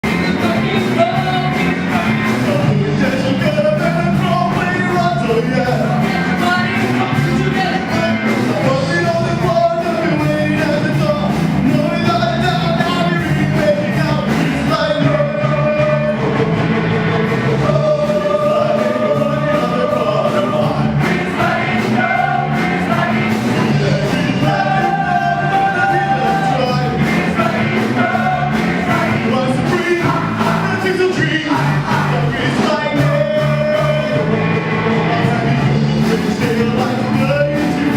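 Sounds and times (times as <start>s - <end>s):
group of voices singing: 0.0s - 37.9s
rock and roll song: 0.0s - 37.9s.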